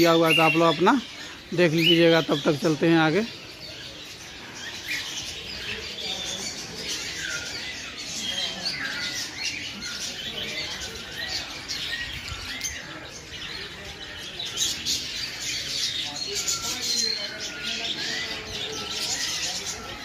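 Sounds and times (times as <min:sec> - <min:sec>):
flock of birds chirping: 0:00.0 - 0:20.0.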